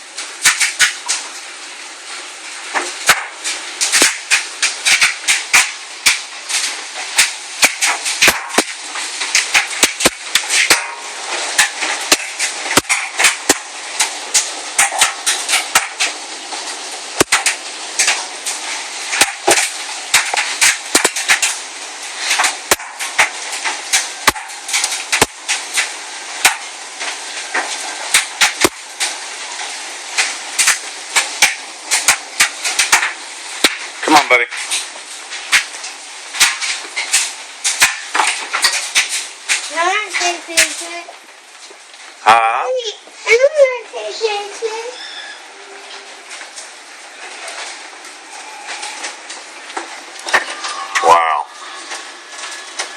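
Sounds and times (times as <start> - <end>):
continuous hiss: 0.0 - 52.9
hailstones clattering on house: 0.0 - 52.9.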